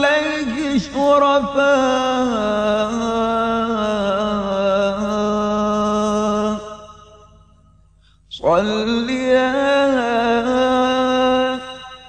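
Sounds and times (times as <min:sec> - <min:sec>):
man chanting: 0:00.0 - 0:07.2, 0:08.3 - 0:12.0.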